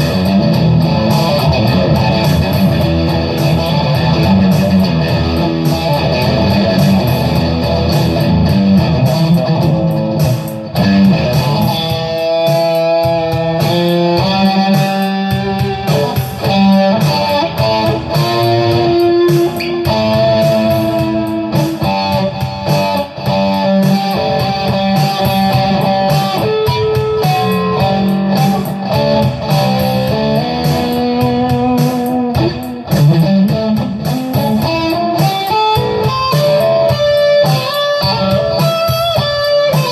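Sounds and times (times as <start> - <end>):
guitar lead lines: 0.0 - 39.9.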